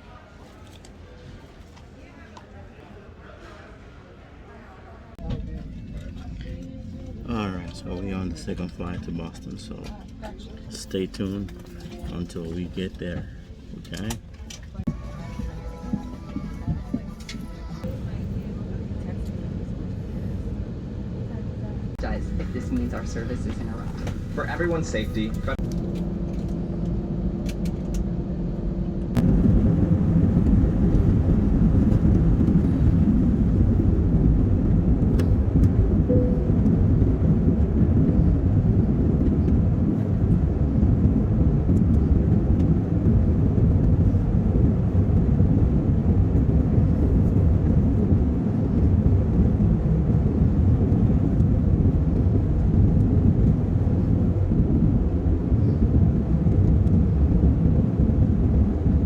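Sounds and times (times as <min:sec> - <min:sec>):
jet engine cabin rumble: 0:05.0 - 0:59.0.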